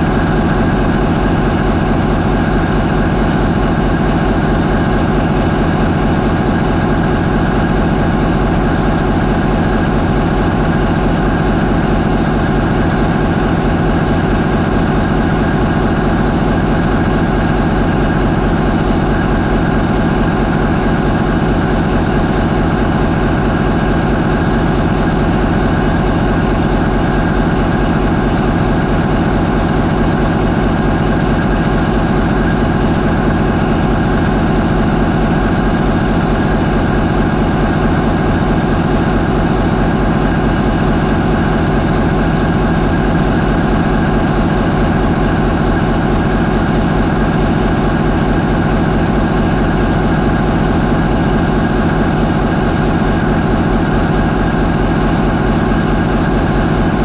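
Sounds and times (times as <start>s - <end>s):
diesel ship engine running: 0.0s - 57.0s.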